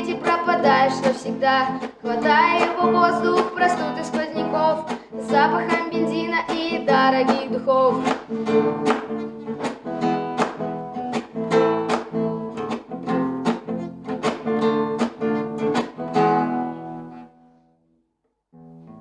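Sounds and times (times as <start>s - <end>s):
acoustic guitar strumming: 0.0s - 17.7s.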